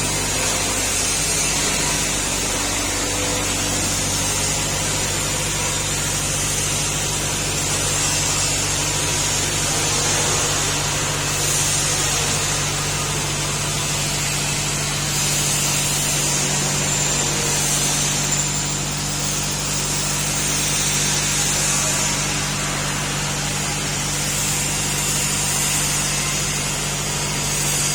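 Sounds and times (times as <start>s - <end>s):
rice milling machine humming: 0.0s - 27.9s.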